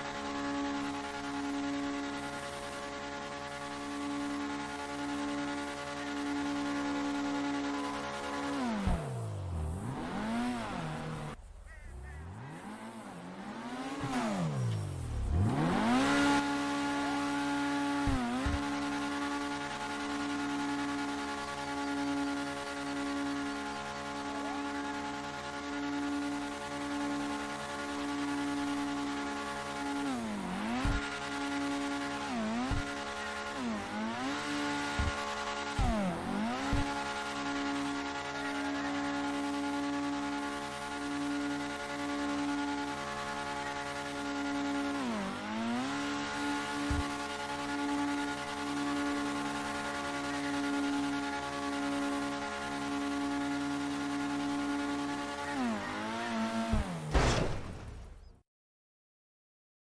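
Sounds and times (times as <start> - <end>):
sports car engine revving: 0.0 - 57.2.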